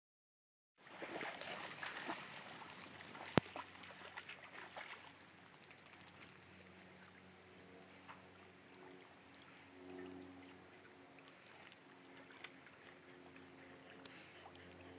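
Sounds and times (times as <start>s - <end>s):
water lapping at shoreline: 0.8s - 14.9s.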